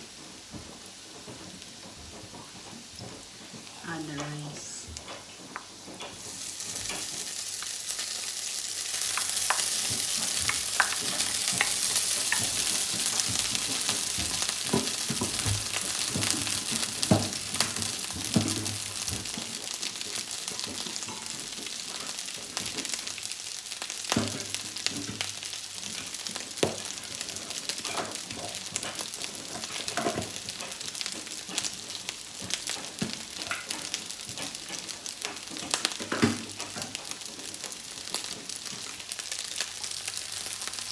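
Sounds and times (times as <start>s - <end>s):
rice sizzling in a pan: 0.0s - 40.9s.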